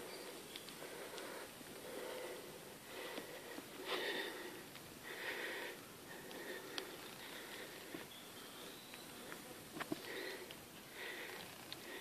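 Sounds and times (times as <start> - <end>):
person breathing: 0.0 - 12.0.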